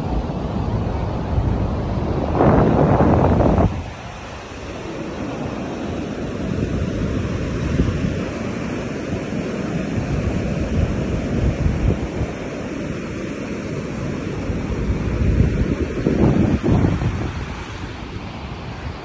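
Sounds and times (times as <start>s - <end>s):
small waves breaking on sand: 0.0s - 19.0s
wind buffeting microphone: 0.0s - 19.0s.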